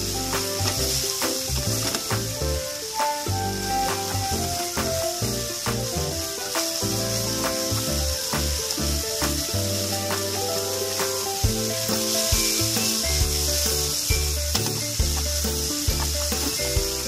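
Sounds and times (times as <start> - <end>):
background music: 0.0 - 17.0
food sizzling in a frying pan: 0.0 - 17.0.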